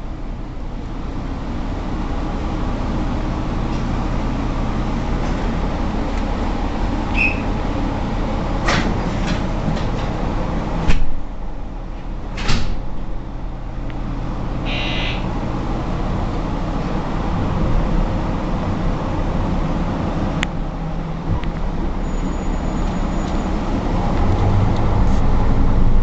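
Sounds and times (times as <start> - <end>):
train carriage rumble: 0.0 - 26.0.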